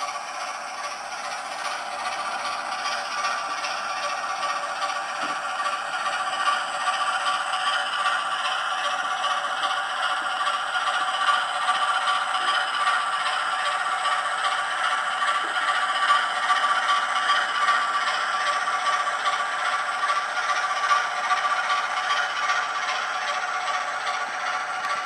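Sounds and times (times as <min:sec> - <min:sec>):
model locomotive rattling on track: 0:00.0 - 0:25.0.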